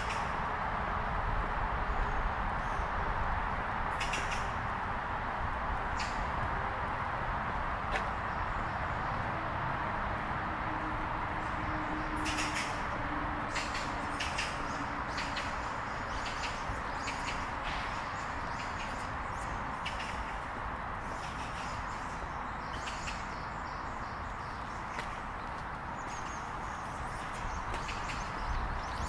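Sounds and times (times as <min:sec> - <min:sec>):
steady background rush: 0:00.0 - 0:29.0.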